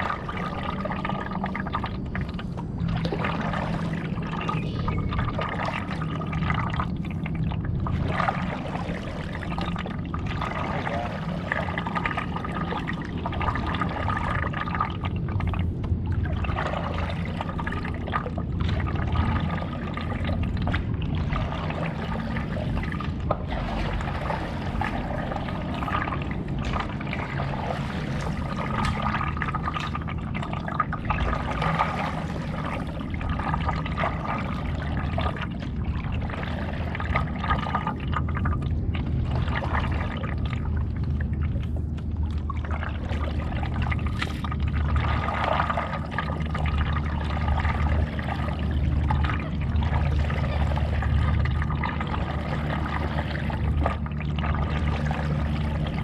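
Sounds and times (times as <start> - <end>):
paddle strokes in water: 0.0 - 56.0
water trickling off paddle: 0.0 - 56.0.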